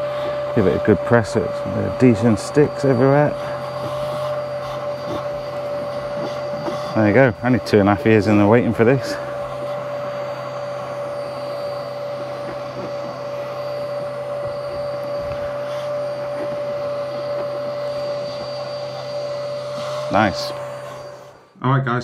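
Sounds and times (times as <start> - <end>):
motor drone with whine: 0.0 - 22.0.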